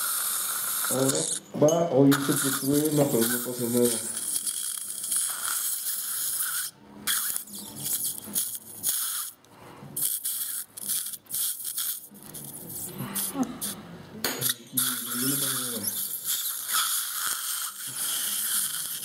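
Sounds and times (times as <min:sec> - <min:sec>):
suction tip hissing and slurping: 0:00.0 - 0:01.5, 0:02.1 - 0:09.4, 0:10.0 - 0:13.8, 0:14.4 - 0:19.0.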